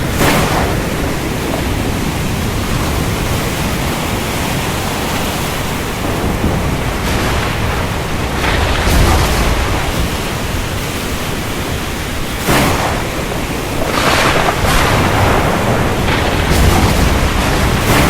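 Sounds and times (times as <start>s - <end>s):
heavy rain: 0.0s - 18.0s
thunder crack and rumble: 0.0s - 18.0s.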